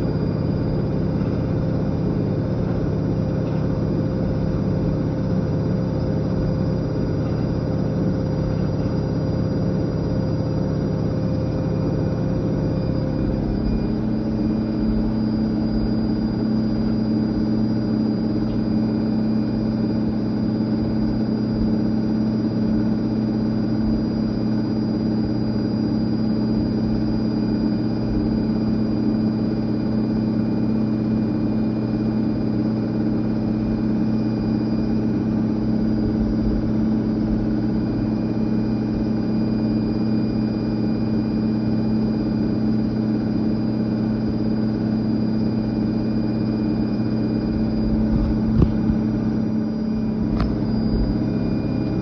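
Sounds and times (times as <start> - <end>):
washing machine running: 0.0 - 52.0.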